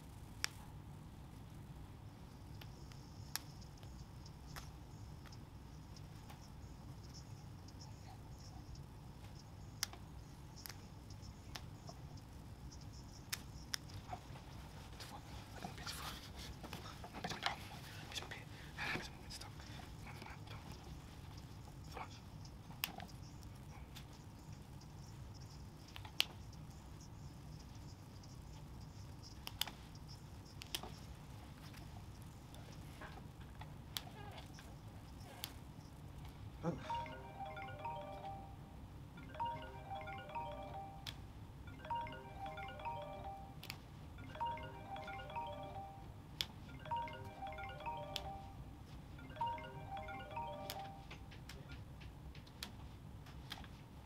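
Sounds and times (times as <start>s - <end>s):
faint room hum: 0.0s - 54.0s.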